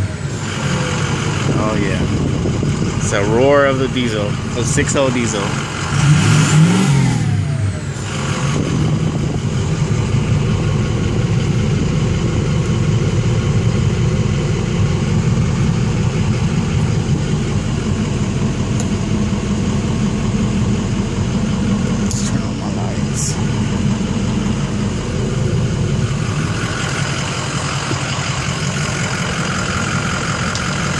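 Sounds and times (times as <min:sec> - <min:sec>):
diesel engine revving and idling: 0:00.0 - 0:30.9.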